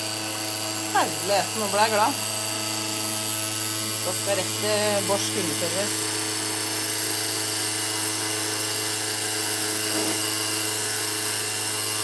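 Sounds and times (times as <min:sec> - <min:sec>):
espresso machine hissing: 0:00.0 - 0:12.0
espresso machine humming: 0:00.0 - 0:12.0.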